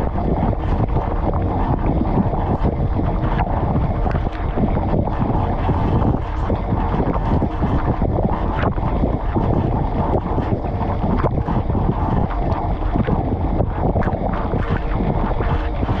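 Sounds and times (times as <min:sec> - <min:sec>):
wash pump humming: 0:00.0 - 0:16.0.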